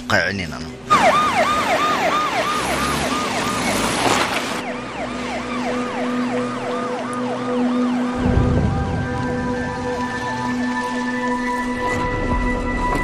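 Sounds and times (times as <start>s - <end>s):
police siren yelping: 0.9s - 11.3s.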